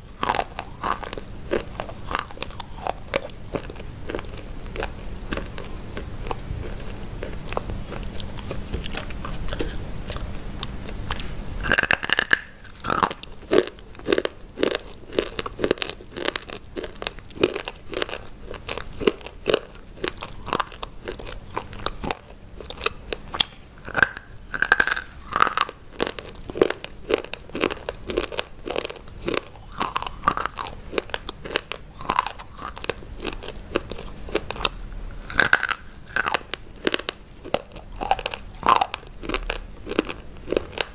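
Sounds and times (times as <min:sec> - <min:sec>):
biting and crunching hard sticks: 0:00.0 - 0:40.9.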